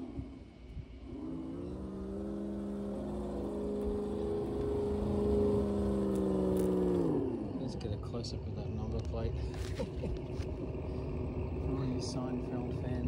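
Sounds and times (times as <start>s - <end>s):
rc truck motor whining: 0.0s - 13.0s.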